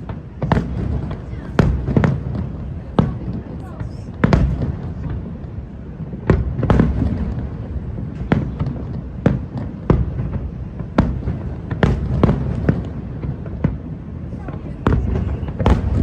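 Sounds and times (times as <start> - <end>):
continuous low rumble: 0.0 - 16.0
fireworks bursting with bangs: 0.0 - 16.0.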